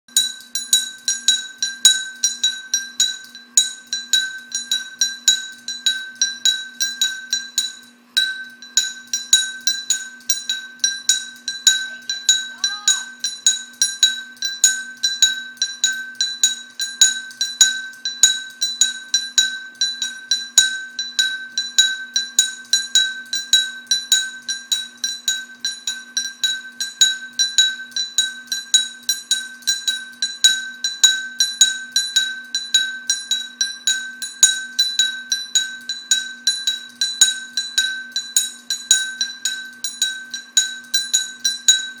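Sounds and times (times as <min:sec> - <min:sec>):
faint fan hum: 0:00.1 - 0:42.0.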